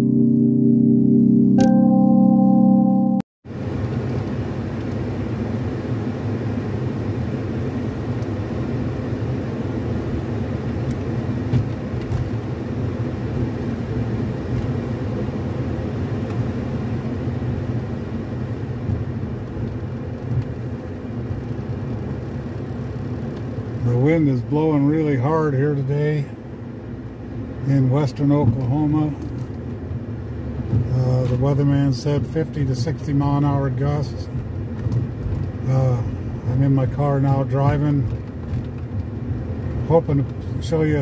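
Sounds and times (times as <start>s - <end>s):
car interior rumble: 3.5s - 41.0s.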